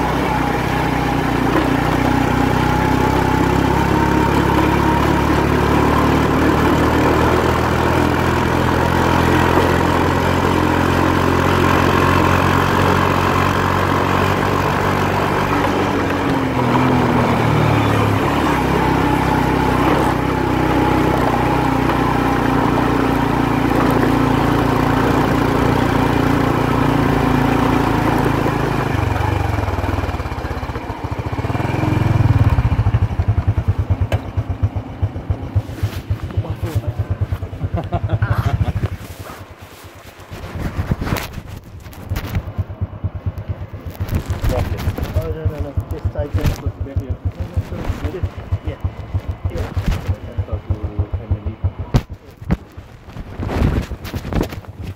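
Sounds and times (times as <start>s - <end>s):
motorbike engine running: 0.0s - 54.9s.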